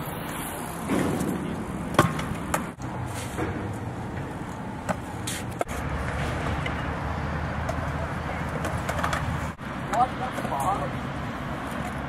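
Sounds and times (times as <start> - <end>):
wheels rolling on concrete: 0.0 - 12.0.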